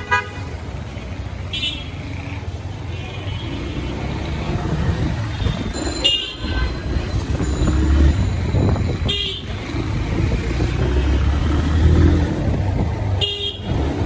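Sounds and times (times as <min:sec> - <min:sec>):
motorcycle engine and road rumble: 0:00.0 - 0:14.0.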